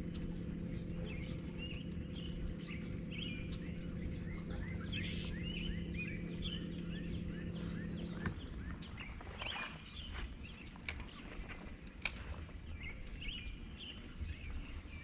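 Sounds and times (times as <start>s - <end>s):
birds singing: 0.0s - 15.0s
steady low hum: 0.0s - 15.0s.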